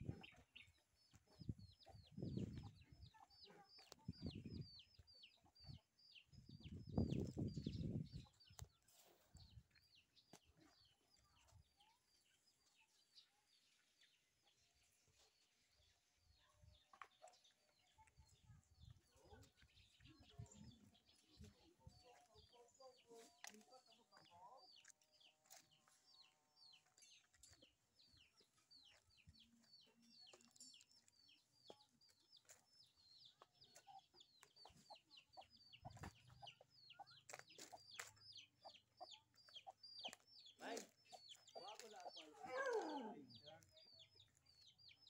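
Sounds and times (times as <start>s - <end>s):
faint chickens clucking: 0.0s - 13.4s, 16.7s - 45.0s.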